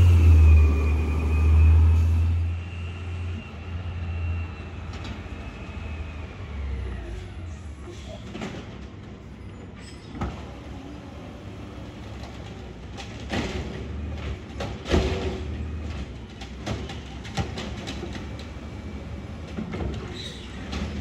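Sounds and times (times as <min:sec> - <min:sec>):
garbage truck running: 0:00.0 - 0:21.0.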